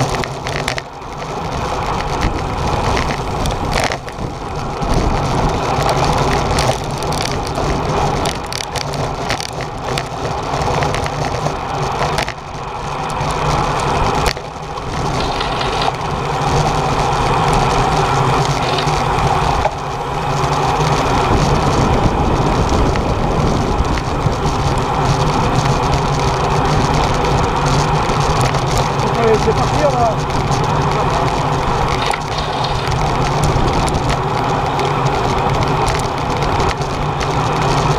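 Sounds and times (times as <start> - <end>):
bicycle tyres on tarmac: 0.0 - 37.9
wind on microphone: 1.5 - 9.8, 13.6 - 37.9.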